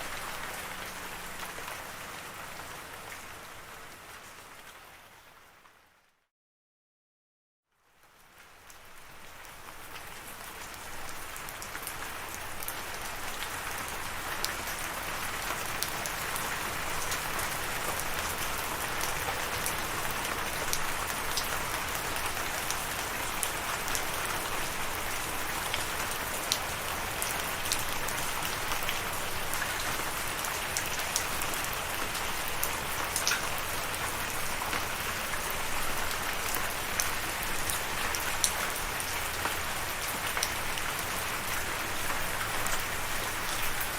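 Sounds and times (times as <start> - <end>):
steady rain falling: 0.0 - 6.2, 7.7 - 43.9.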